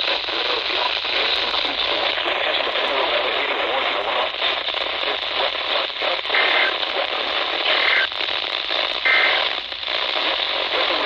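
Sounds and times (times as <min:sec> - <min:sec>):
radio static hiss and crackle: 0:00.0 - 0:11.0.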